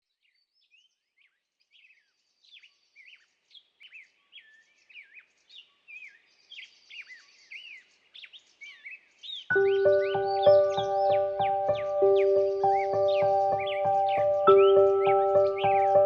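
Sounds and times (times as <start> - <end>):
songbirds singing: 0.1 - 16.0.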